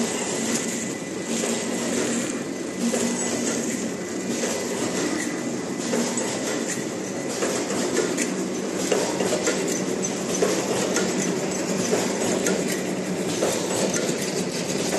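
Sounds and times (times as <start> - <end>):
packing machine clattering: 0.5 - 14.9.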